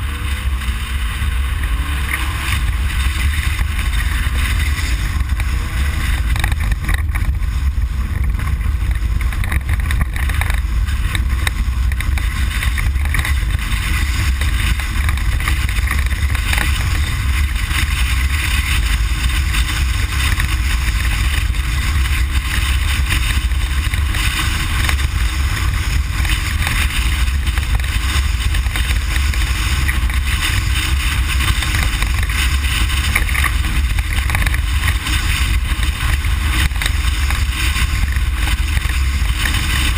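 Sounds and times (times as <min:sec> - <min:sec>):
truck engine rumble: 0:00.0 - 0:39.9
wind and dirt hiss: 0:00.0 - 0:39.9.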